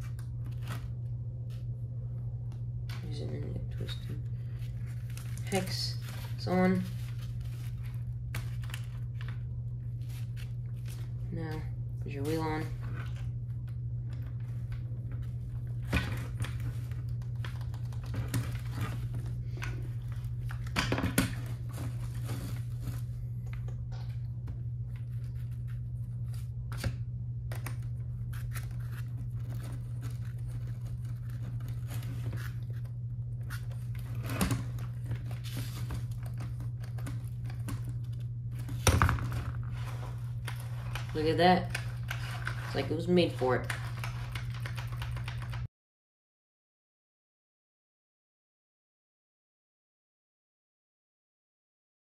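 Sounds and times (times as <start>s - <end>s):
steady low hum: 0.0s - 45.7s.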